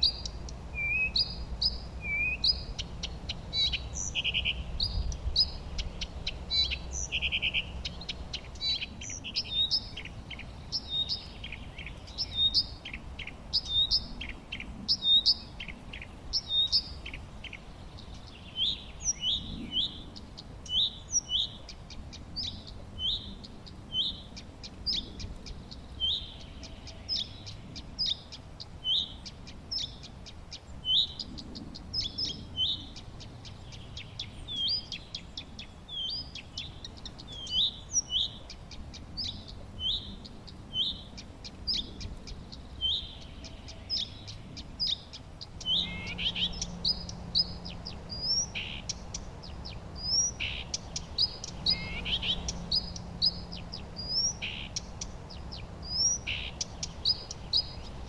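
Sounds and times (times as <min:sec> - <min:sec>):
low steady hum: 0:00.0 - 0:58.0
songbirds chirping: 0:00.0 - 0:58.0.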